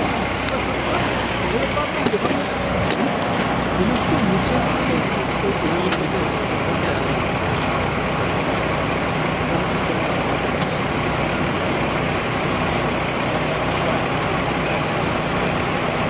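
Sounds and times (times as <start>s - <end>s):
idling vehicle engines rumbling: 0.0s - 16.0s.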